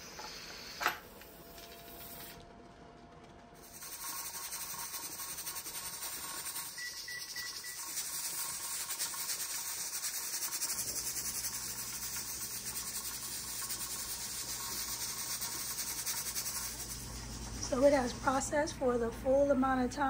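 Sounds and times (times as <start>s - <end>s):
steady hiss: 0.0s - 18.5s.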